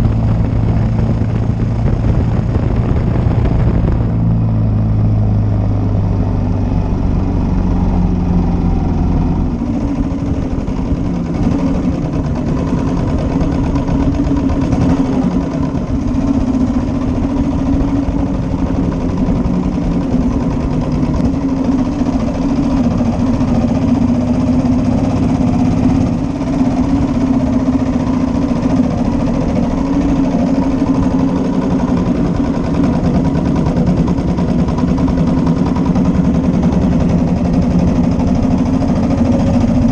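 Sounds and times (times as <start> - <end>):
deep low rumble: 0.0 - 39.9
single-cylinder engine running: 0.0 - 39.9.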